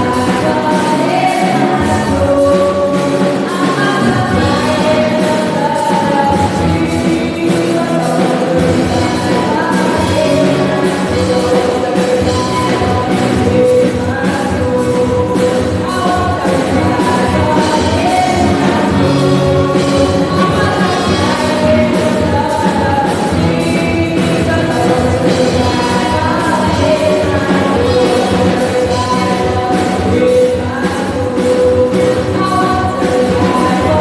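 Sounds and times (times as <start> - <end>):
full band with percussion: 0.0 - 34.0.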